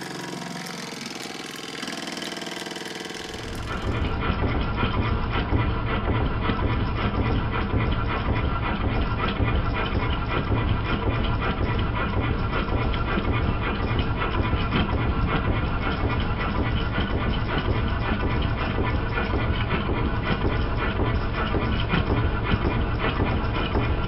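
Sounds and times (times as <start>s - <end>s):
model steam engine clattering: 0.0s - 24.0s.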